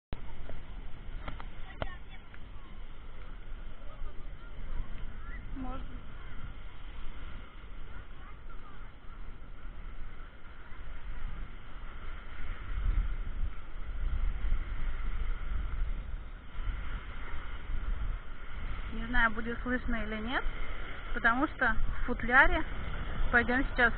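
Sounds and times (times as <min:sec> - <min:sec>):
low rumble: 0:00.1 - 0:23.9
muffled surf: 0:00.1 - 0:23.9
muffled wind: 0:00.1 - 0:23.9.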